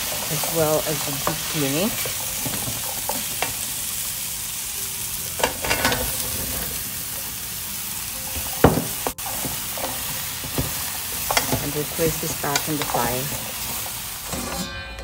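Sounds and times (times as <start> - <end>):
vegetables clattering into a pan: 0.0 - 3.8, 5.4 - 7.3, 8.3 - 14.7
potatoes sizzling in a pan: 0.0 - 14.5.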